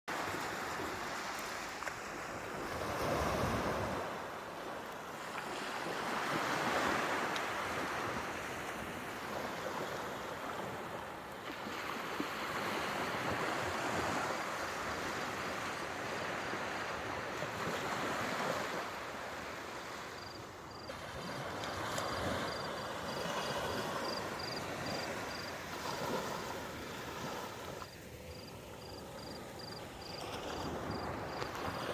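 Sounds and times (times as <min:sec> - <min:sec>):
wind: 0:00.0 - 0:31.9
sea surf washing ashore: 0:00.1 - 0:31.9.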